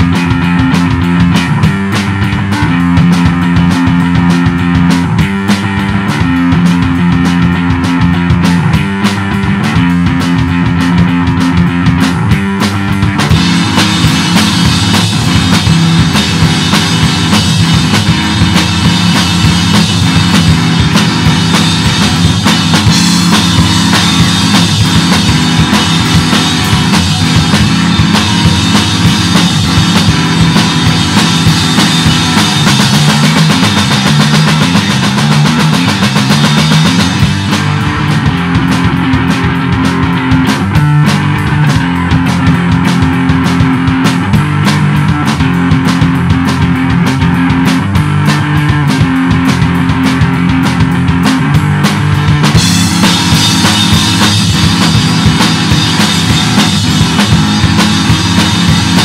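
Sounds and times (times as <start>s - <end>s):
drum kit playing: 0.0s - 59.0s
guitar playing: 0.0s - 59.0s.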